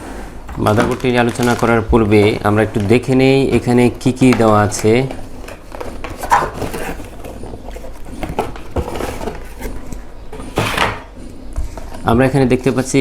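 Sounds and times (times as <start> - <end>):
box accessories rustling and clicking: 0.5 - 12.3.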